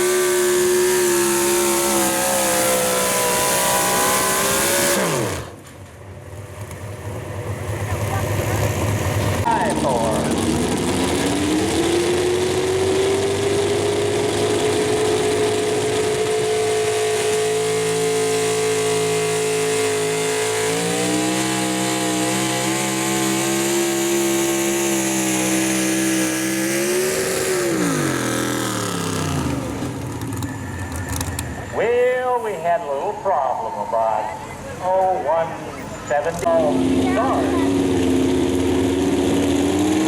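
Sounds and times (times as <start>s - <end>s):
truck engine at high revs: 0.0s - 40.0s.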